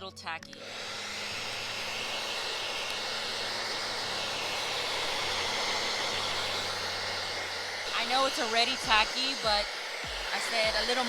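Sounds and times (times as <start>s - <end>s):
hot-air blower running: 0.5s - 11.0s.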